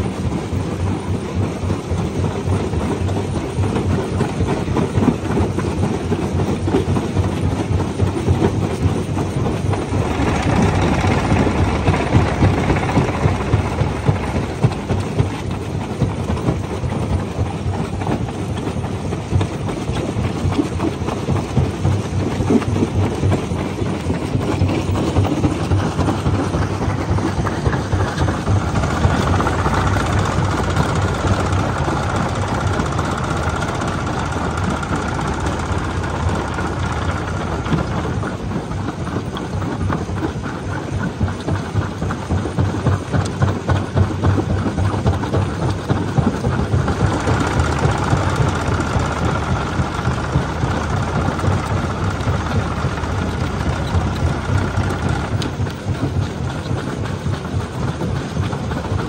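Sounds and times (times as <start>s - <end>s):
rock crusher rumbling: 8.5s - 59.0s.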